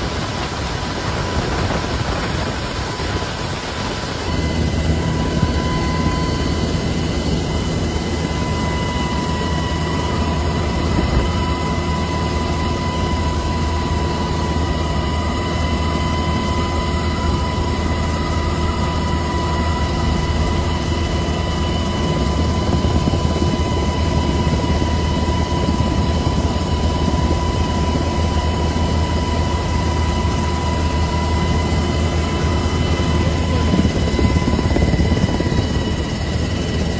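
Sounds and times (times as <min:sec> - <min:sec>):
engine drone: 0:00.0 - 0:36.9
high whine: 0:00.0 - 0:36.9.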